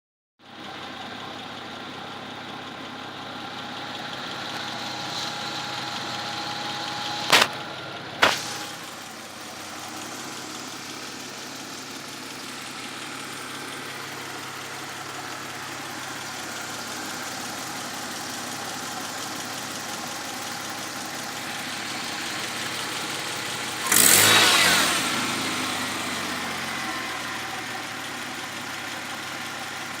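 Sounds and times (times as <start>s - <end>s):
car engine idling with knock: 0.5s - 30.0s.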